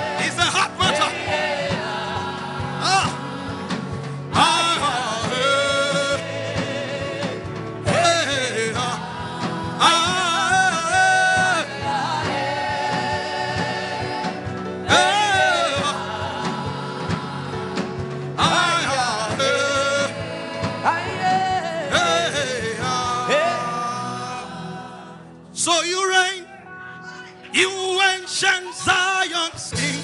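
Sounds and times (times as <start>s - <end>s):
gospel instruments and beat: 0.0s - 30.0s.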